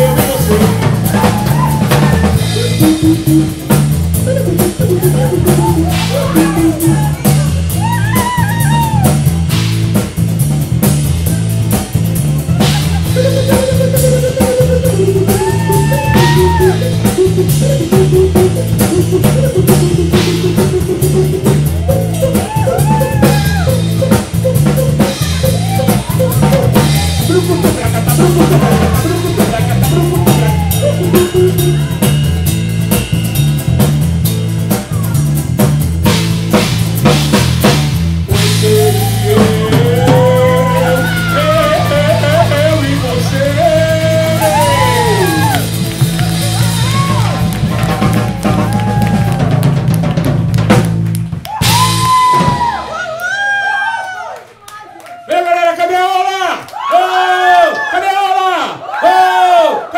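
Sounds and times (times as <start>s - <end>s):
sliding lead melody: 0.0s - 52.9s
electric bass: 0.0s - 53.9s
drum kit: 0.0s - 54.0s.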